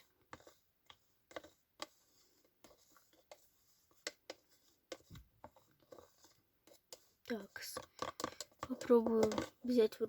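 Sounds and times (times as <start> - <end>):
stick stirring thick paste: 0.0 - 10.0.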